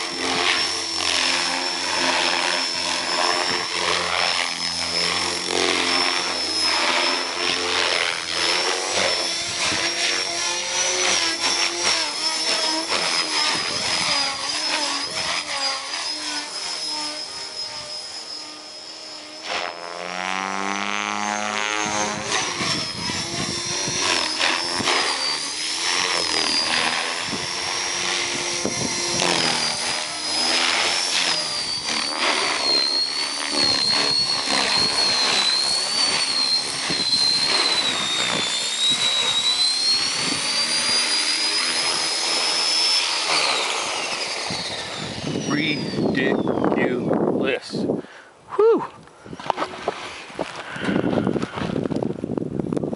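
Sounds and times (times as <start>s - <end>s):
rotor blades chopping: 0.0s - 47.3s
rc helicopter motor whine: 0.0s - 52.9s.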